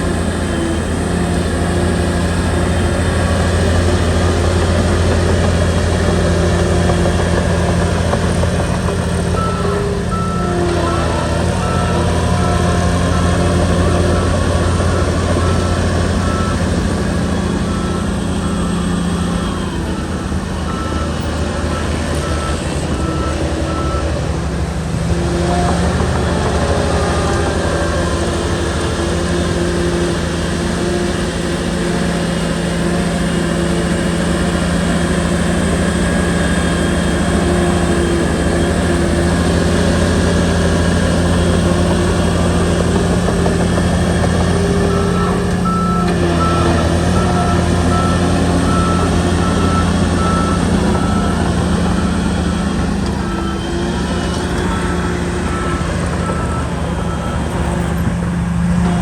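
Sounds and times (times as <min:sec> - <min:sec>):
bulldozer diesel engine: 0:00.0 - 0:59.0
reversing alarm beeping: 0:00.0 - 0:59.0.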